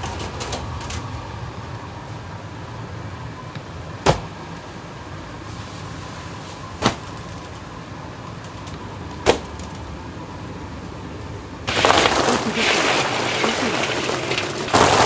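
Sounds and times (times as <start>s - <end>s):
faint constant tone: 0.0s - 15.0s
steady background hum: 0.0s - 15.0s.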